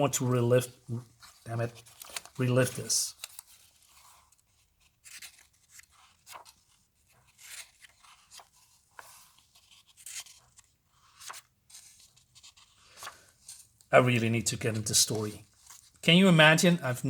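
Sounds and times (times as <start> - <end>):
comic book paper rustling: 0.2 - 16.6.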